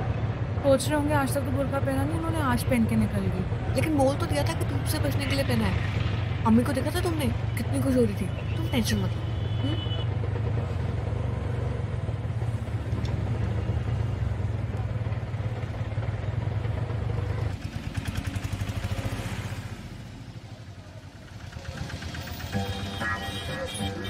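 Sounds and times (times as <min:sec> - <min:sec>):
auto-rickshaw engine running: 0:00.0 - 0:24.0.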